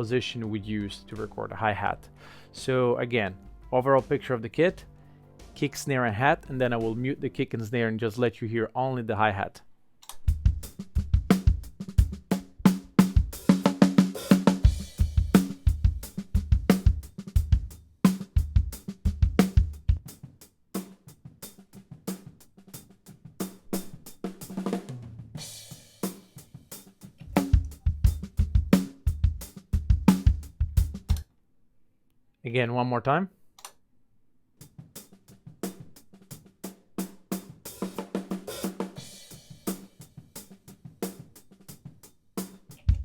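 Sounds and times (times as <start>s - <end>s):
drum kit groove: 0.0s - 7.9s, 10.0s - 31.2s, 34.6s - 43.0s.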